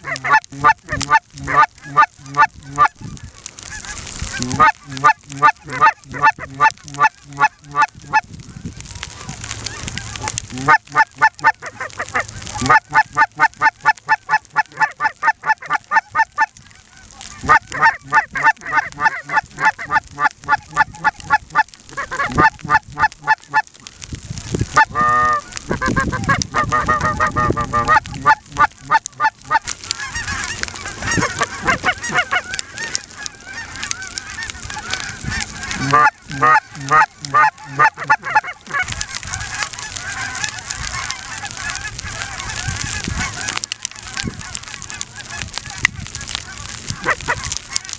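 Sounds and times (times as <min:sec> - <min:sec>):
geese honking: 0:00.0 - 0:47.9.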